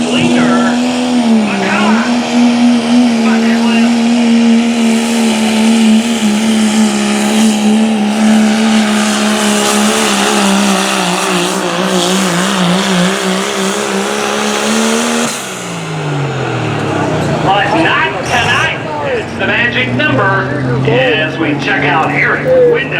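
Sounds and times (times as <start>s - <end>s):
truck diesel engine revving: 0.0s - 22.9s.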